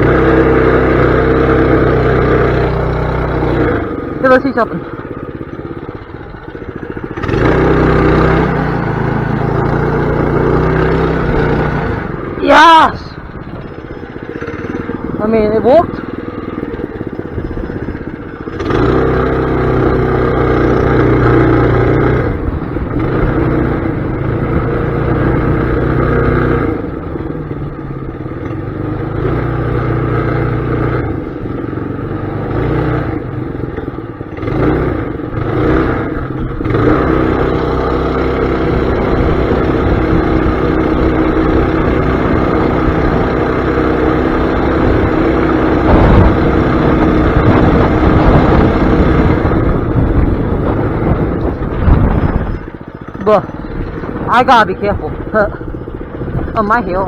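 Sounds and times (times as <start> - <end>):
mini bike engine revving: 0.0 - 57.0.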